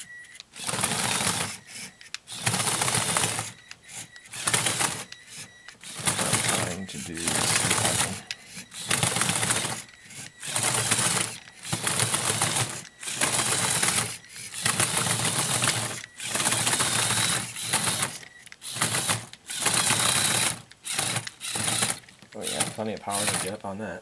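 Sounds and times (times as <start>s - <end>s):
motor whirring: 0.0s - 23.8s
plastic gears and tracks clattering: 0.2s - 23.8s.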